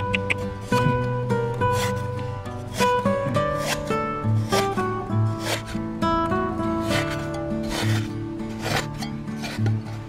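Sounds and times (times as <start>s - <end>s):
plucked string instrument music: 0.0s - 10.0s.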